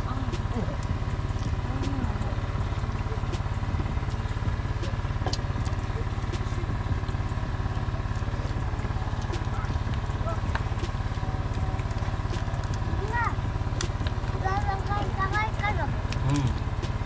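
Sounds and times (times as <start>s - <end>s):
portable generator engine running: 0.0s - 17.0s.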